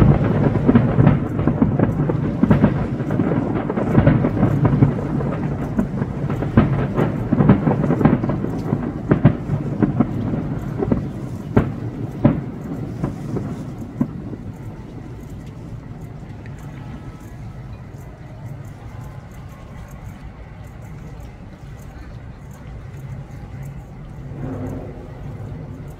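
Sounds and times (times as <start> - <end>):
distant fireworks bursting: 0.0 - 25.9.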